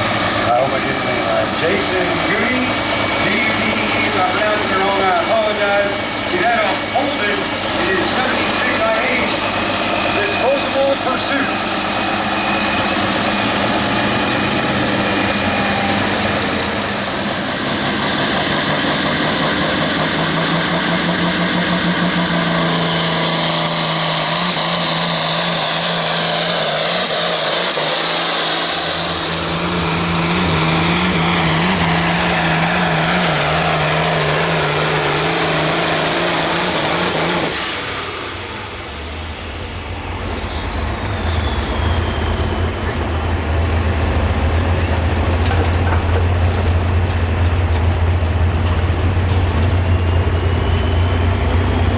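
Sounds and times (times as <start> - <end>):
tractor engine at full throttle: 0.0 - 51.9.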